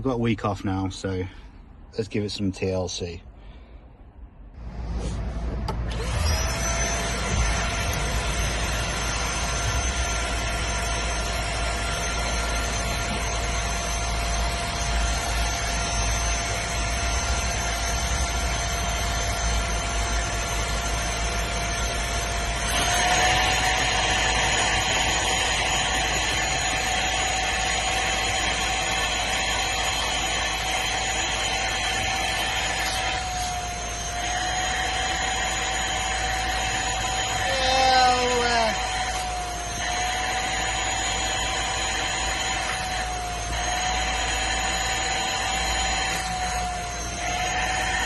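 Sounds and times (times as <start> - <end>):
vacuum motor whining: 4.6 - 48.0.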